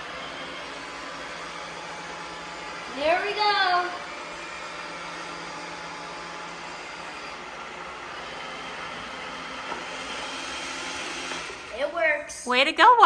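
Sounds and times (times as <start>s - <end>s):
robot vacuum whirring hum: 0.0s - 12.4s.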